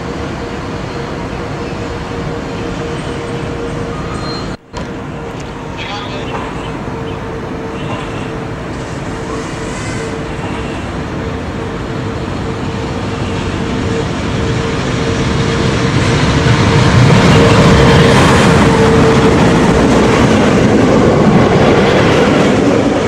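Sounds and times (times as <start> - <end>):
electric locomotive passing: 0.0 - 23.0.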